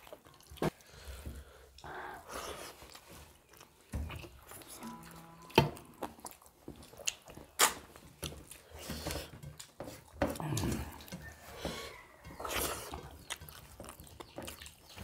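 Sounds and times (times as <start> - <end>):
wet chewing and lip smacks: 0.0 - 0.9, 1.7 - 15.0.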